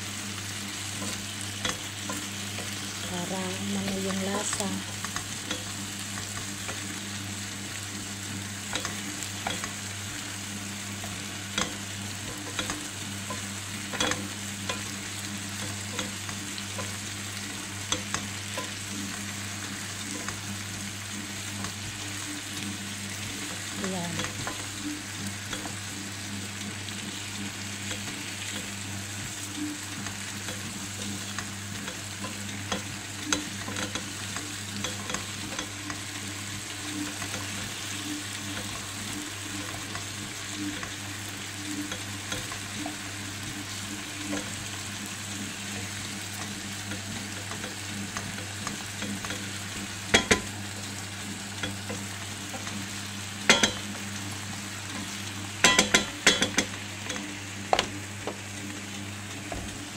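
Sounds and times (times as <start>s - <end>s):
chicken and potatoes sizzling: 0.0s - 59.9s.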